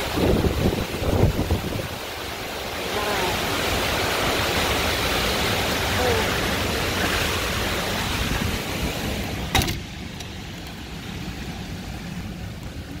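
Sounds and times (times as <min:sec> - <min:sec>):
wind gusts buffeting microphone: 0:00.0 - 0:13.0.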